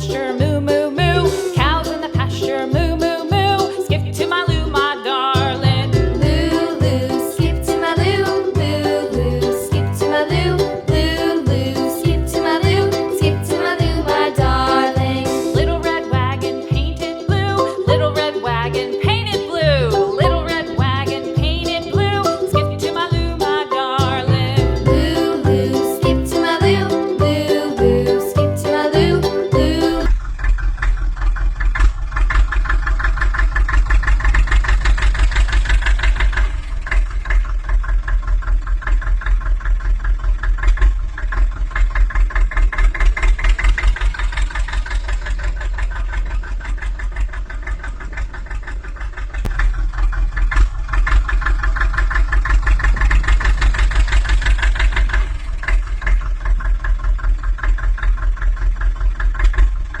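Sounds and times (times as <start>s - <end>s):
tractor engine chugging: 0.0s - 60.0s.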